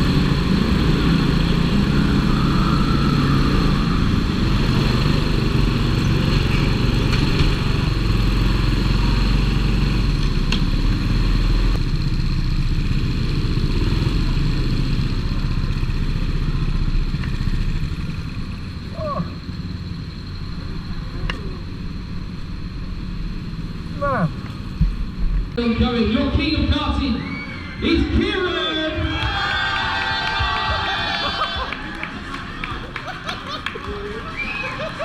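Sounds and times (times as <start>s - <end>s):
go-kart engine running hard: 0.0s - 25.5s, 29.3s - 35.0s.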